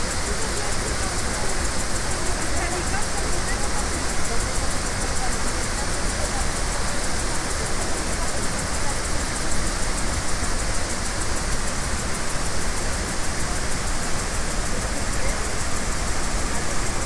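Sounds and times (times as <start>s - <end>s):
waterfall roaring: 0.1s - 17.0s.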